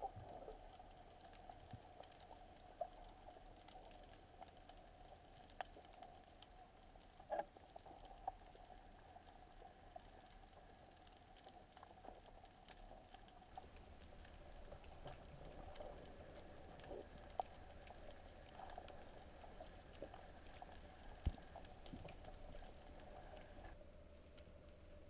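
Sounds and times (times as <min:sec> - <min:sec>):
faint steady hum: 0:00.0 - 0:25.0
underwater crackling and ticking: 0:00.0 - 0:25.0.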